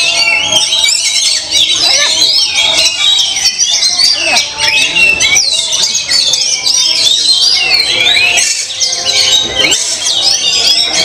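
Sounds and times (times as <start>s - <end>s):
people's voices: 0.0s - 11.0s
songbirds singing: 0.0s - 11.0s.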